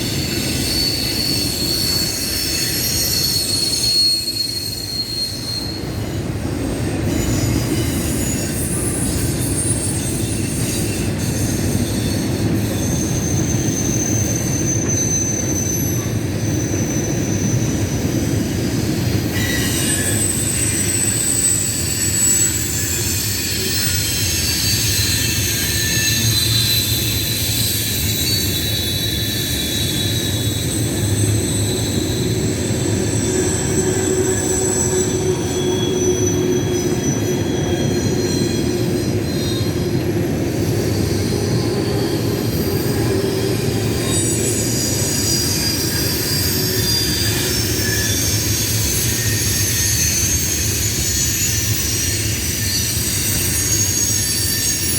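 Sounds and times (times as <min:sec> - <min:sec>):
high-pitched wheel squeal: 0:00.0 - 0:54.9
train wheels rumbling on rails: 0:00.0 - 0:54.9.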